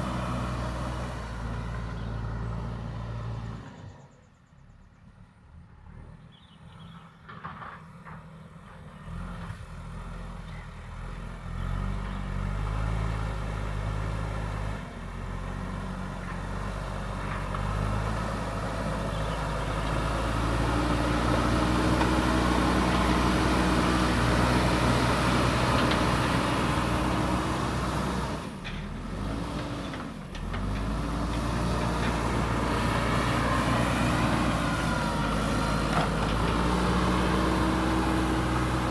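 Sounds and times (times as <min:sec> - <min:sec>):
diesel engine revving: 0:00.0 - 0:03.9, 0:09.0 - 0:38.9.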